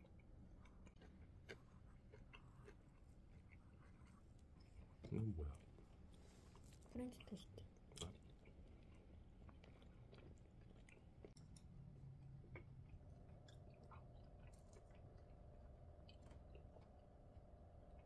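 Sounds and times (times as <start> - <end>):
faint chewing: 0.0 - 18.0
faint steady hum: 0.0 - 18.0.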